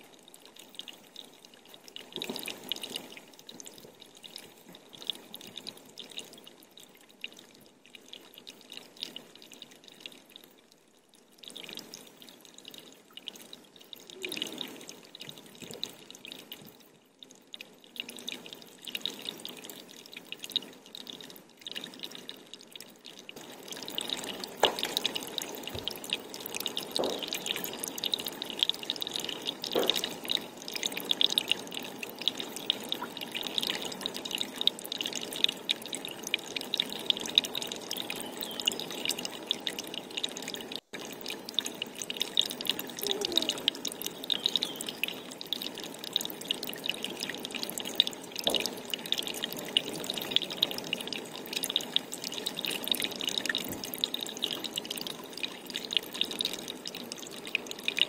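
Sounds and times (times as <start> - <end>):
water dripping and trickling: 0.0 - 58.0.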